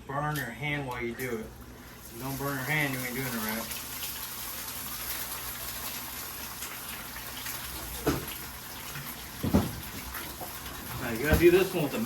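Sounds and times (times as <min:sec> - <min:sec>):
eggs sizzling in a frying pan: 0:01.6 - 0:12.0.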